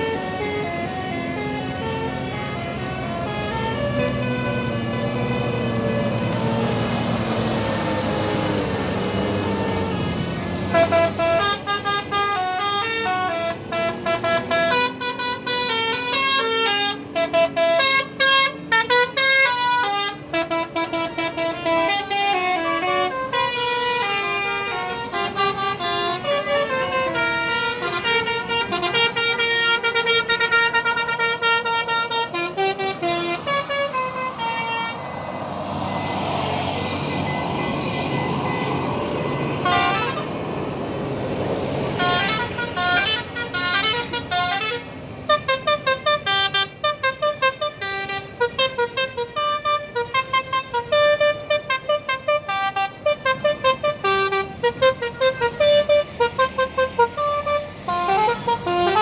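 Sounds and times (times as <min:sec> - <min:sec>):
bus engines passing: 0:00.0 - 0:59.0
multi-tone bus horns playing runs: 0:00.0 - 0:59.0
road noise: 0:00.0 - 0:59.0.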